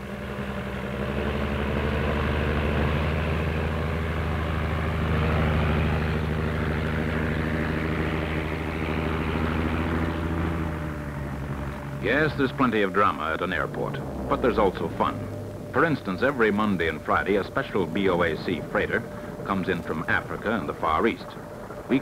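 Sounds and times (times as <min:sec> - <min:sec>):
propeller engines droning: 0:00.0 - 0:22.0.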